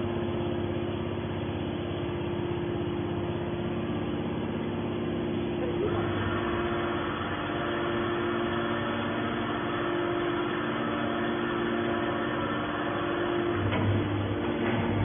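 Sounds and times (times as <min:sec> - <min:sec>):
electric motor and pump humming: 0:00.0 - 0:15.0.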